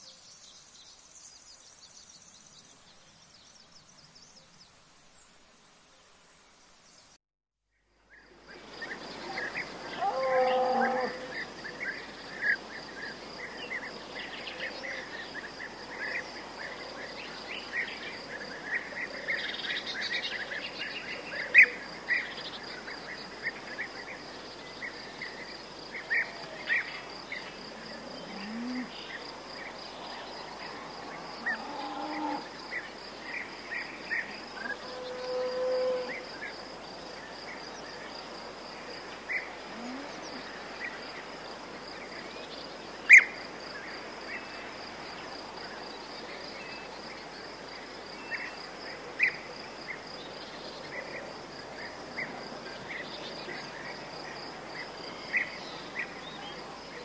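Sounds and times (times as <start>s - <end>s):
crickets chirring: 8.1s - 57.0s.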